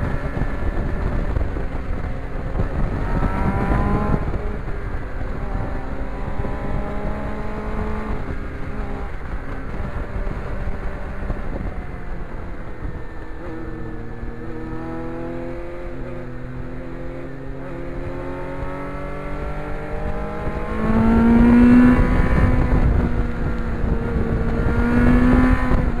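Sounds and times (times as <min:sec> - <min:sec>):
motorcycle engine accelerating: 0:00.0 - 0:26.0
wind rushing over microphone: 0:00.0 - 0:26.0.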